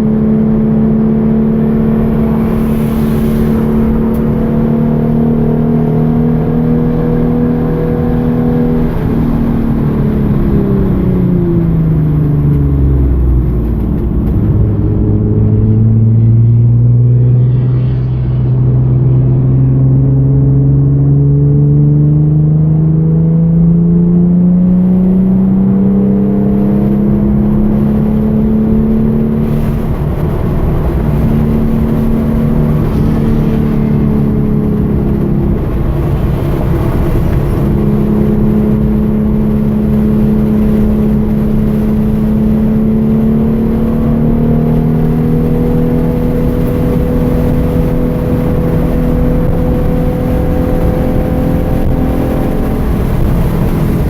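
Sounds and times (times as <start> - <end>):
car engine running under load: 0.0 - 54.0.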